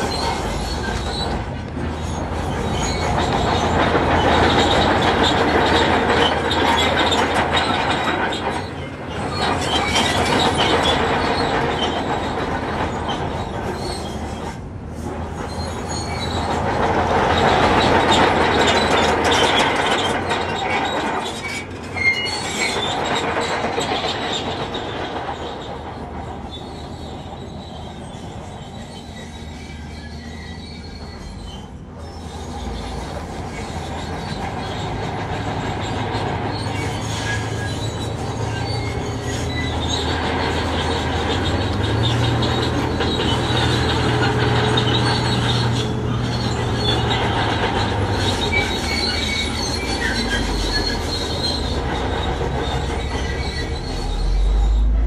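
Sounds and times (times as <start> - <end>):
bulldozer engine drone: 0.0 - 55.0
steel tracks grinding and clanking: 0.0 - 55.0.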